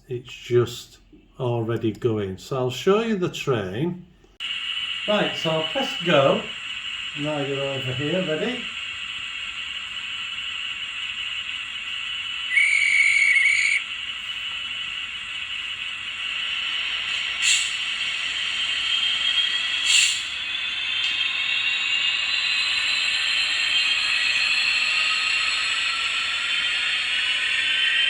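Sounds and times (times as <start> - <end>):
model locomotive running sound: 0.0 - 28.0
steady hiss: 0.0 - 28.0.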